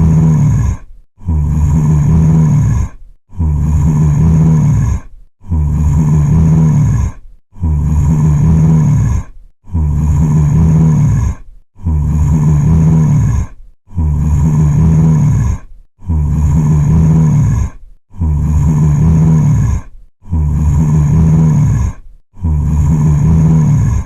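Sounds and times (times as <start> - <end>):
zombie groan: 0.0 - 24.0.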